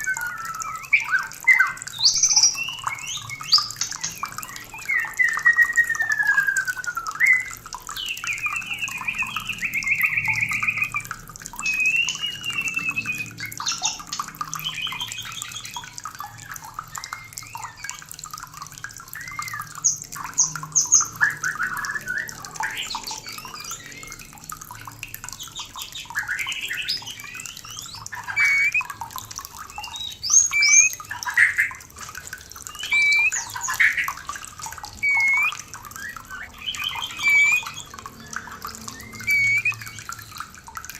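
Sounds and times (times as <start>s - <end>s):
bird singing whistles and trills: 0.0s - 40.6s.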